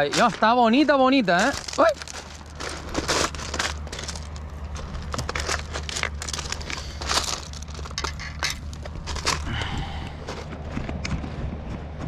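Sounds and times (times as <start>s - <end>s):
pebbles crunching underfoot: 0.0s - 12.0s.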